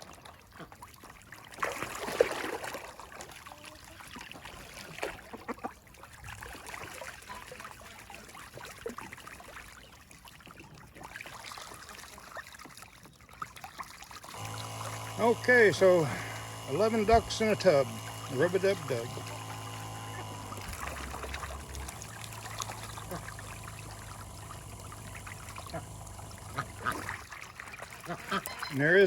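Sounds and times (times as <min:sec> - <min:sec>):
water trickling and sloshing: 0:00.0 - 0:14.4, 0:19.3 - 0:29.0
ducks splashing in water: 0:00.0 - 0:29.0.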